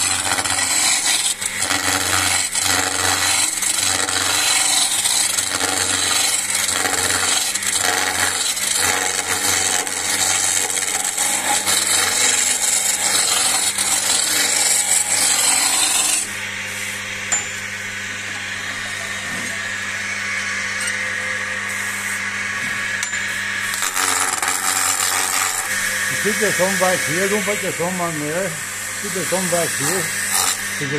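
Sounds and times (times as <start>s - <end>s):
chisel cutting wood on a lathe: 0.0s - 17.3s, 18.3s - 30.9s
lathe motor hum: 0.0s - 30.9s.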